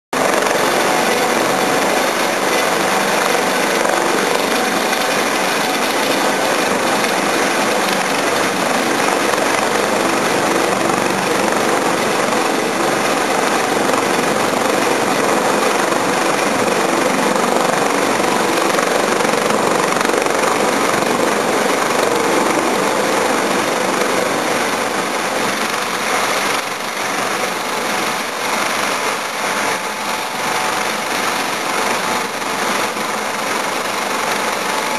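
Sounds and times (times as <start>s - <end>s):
helicopter turbines and rotors: 0.2s - 34.9s.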